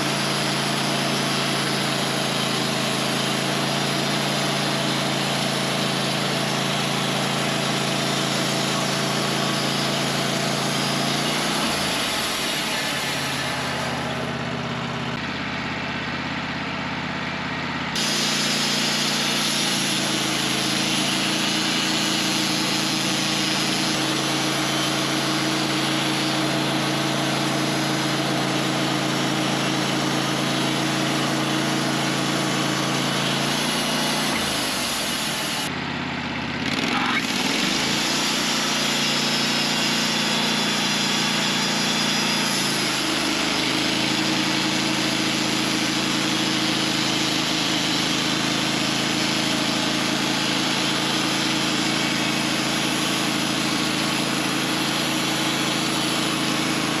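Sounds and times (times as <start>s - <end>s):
saw cutting log: 0.0s - 57.0s
sawmill engine running: 0.0s - 57.0s.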